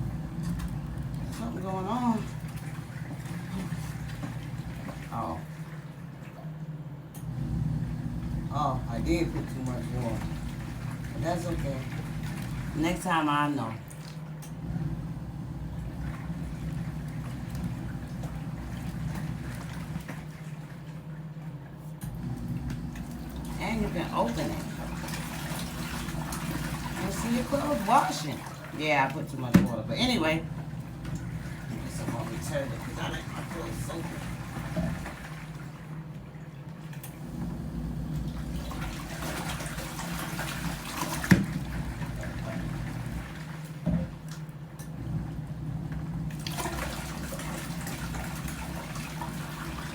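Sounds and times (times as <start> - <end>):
agitator churning water: 0.0 - 49.9
washing machine motor hum: 0.0 - 49.9.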